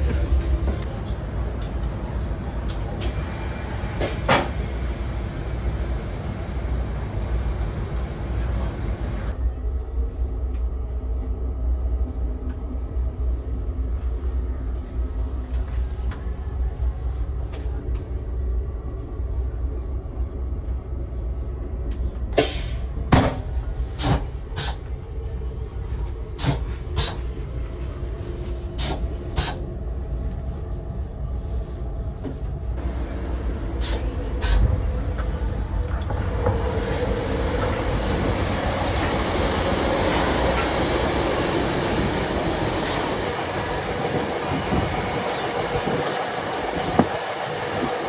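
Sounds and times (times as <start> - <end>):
train car interior rumble: 0.0 - 48.0.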